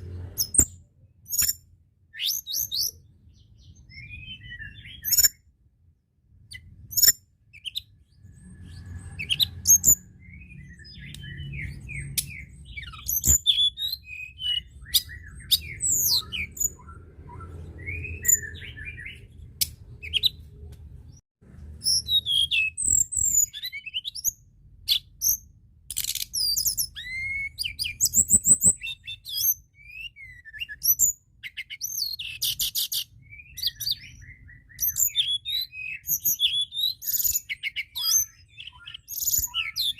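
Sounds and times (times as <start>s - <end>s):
songbird chirping and whistling: 0.0s - 5.5s, 6.4s - 21.2s, 21.8s - 39.9s.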